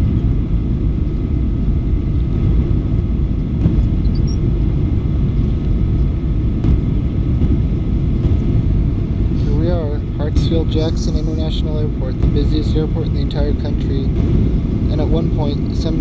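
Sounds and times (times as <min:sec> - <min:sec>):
faint steady whine: 0:00.0 - 0:16.0
jet engines rumbling: 0:00.0 - 0:16.0
rushing air: 0:00.0 - 0:16.0.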